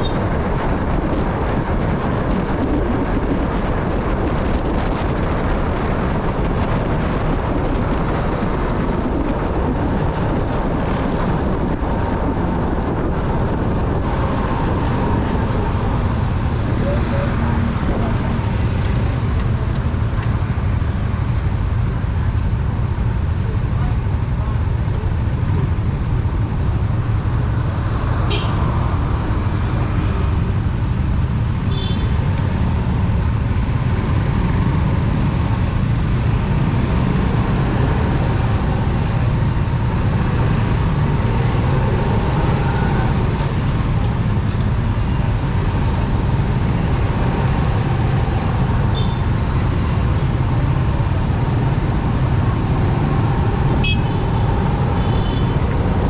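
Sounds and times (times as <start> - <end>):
motorcycle road and wind rumble: 0.0 - 56.0.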